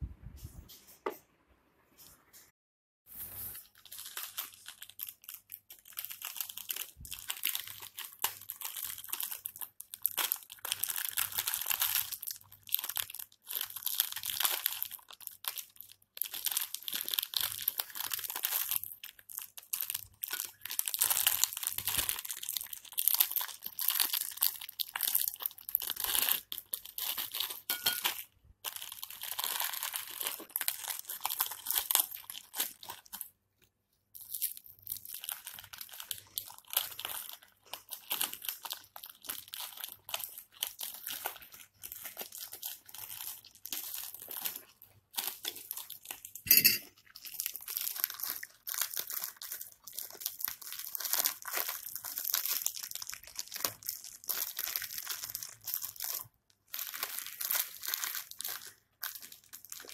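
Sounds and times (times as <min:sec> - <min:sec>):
plastic wrapper crinkling: 0:03.2 - 0:59.9.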